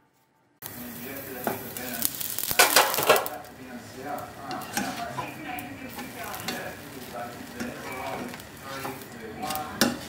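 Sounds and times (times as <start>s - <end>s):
pancake sizzling in a frying pan: 0.6s - 10.0s
spatula scraping pan: 1.3s - 10.0s.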